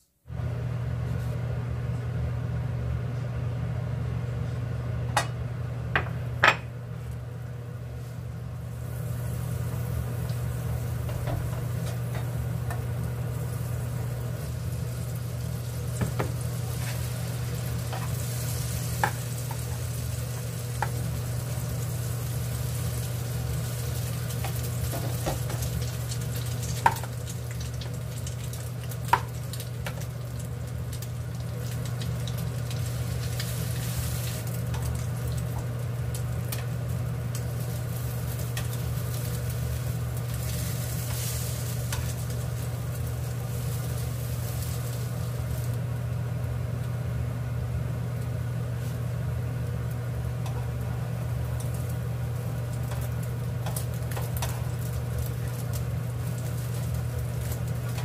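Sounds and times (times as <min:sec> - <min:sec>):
steady low hum: 0:00.0 - 0:58.0
bread sizzling in a frying pan: 0:05.9 - 0:58.0.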